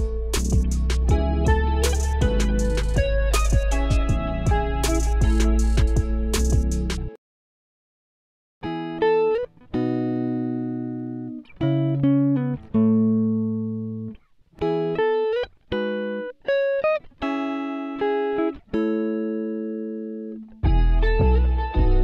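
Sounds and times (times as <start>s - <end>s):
plucked string melody: 0.0s - 7.2s, 8.6s - 22.0s.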